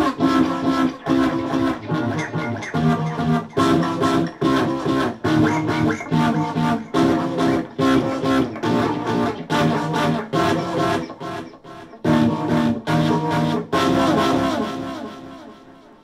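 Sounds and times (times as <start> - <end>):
electric guitar chords: 0.0 - 16.0.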